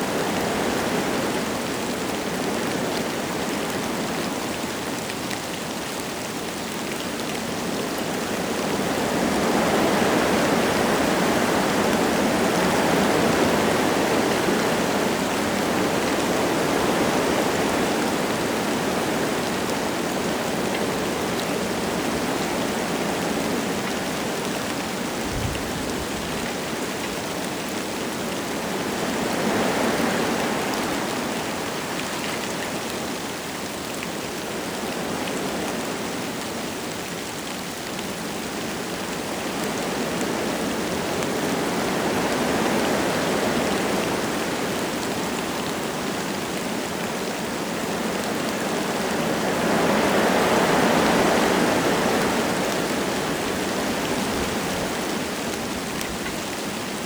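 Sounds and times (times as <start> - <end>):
light rain falling: 0.0 - 57.0
wind gusting through trees: 0.0 - 57.0.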